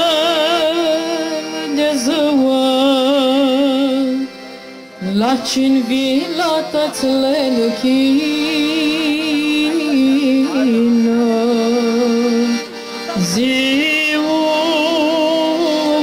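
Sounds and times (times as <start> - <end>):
slow folk-style melody: 0.0 - 16.0.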